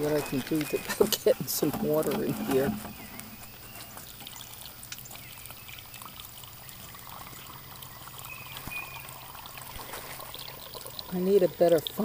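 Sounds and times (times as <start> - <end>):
water trickling into funnel: 0.0 - 12.0.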